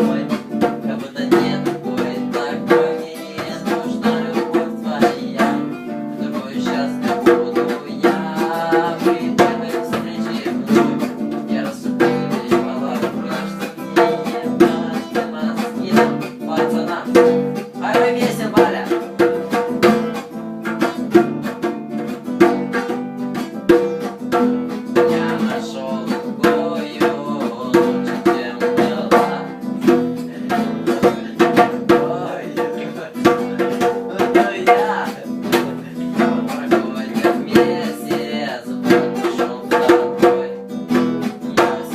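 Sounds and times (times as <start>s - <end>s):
strummed guitar-like music: 0.0s - 41.9s.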